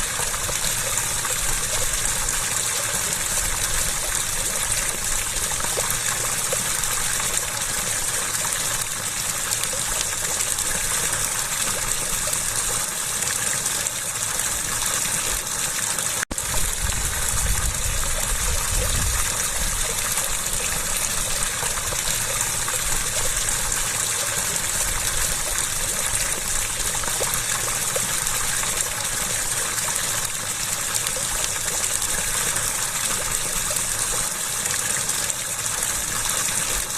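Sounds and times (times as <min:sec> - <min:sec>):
water rushing and splashing: 0:00.0 - 0:36.9.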